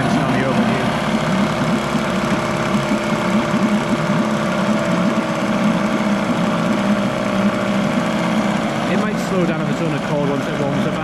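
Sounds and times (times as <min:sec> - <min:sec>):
exhaust churning water: 0:00.0 - 0:11.0
outboard engine running: 0:00.0 - 0:11.0.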